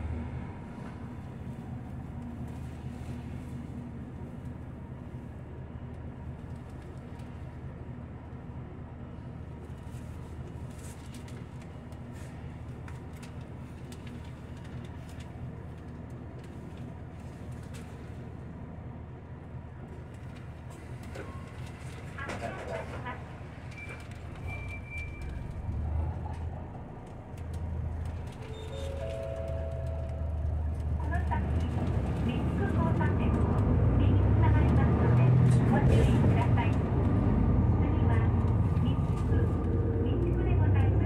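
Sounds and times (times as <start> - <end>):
bus diesel engine humming: 0.0 - 41.0.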